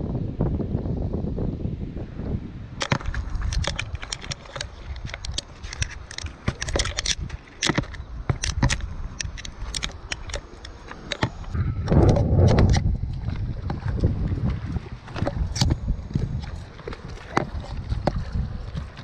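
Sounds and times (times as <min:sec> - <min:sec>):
wind rumble on microphone: 0:00.0 - 0:19.0
footsteps on river cobbles: 0:02.8 - 0:19.0.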